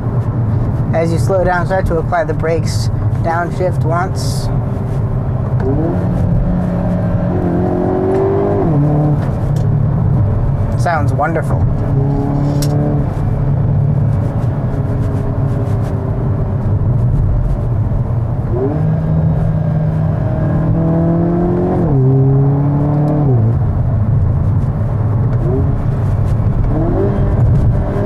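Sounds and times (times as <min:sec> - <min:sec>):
car engine and exhaust accelerating: 0:00.0 - 0:28.0.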